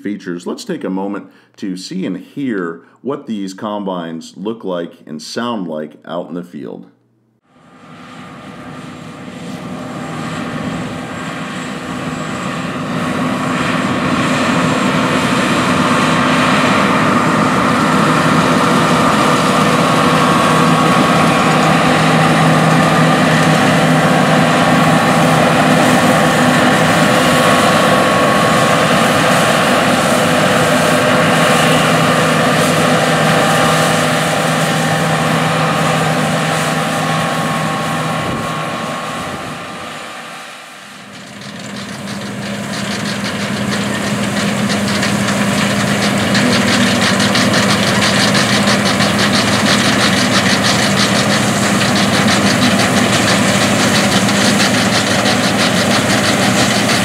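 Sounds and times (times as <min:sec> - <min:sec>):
combine harvester running: 0:07.4 - 0:57.0.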